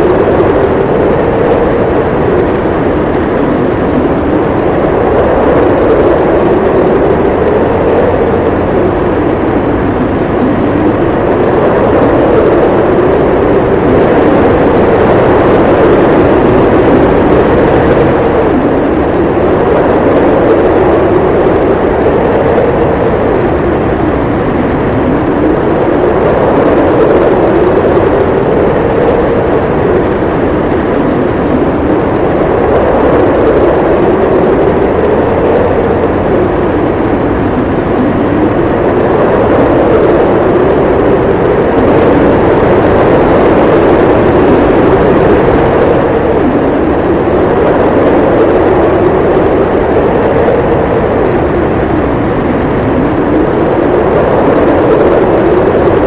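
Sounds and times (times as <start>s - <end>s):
blizzard wind howling: 0.0s - 56.0s.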